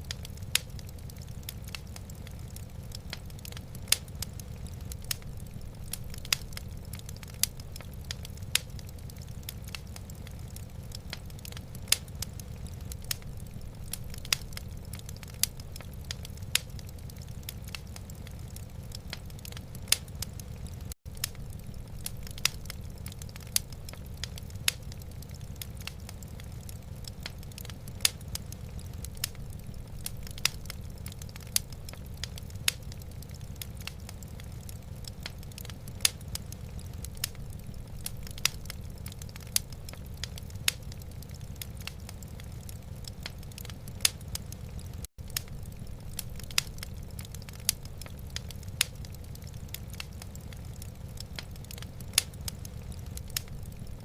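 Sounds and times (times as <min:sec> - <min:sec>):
low steady fire rumble: 0:00.0 - 0:54.0
wood fire crackling and popping: 0:00.0 - 0:54.0.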